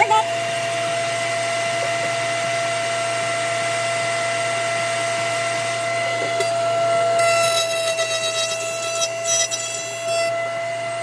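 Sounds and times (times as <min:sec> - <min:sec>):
router spinning with high whine: 0:00.0 - 0:11.0.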